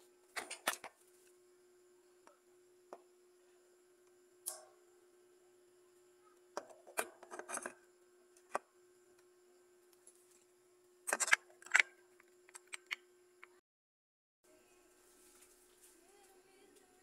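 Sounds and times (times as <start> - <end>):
faint steady hum: 0.0 - 13.6, 14.5 - 17.0.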